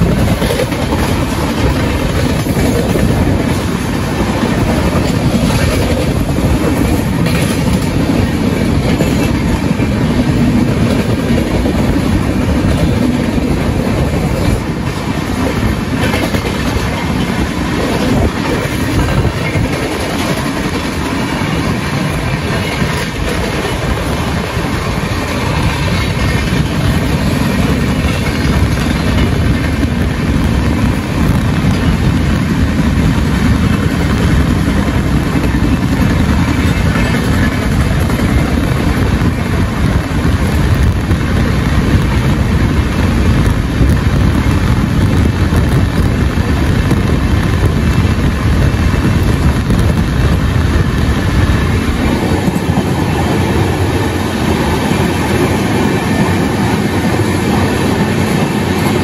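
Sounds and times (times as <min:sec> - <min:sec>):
rushing air: 0:00.0 - 0:59.0
train rumbling at speed: 0:00.0 - 0:59.0.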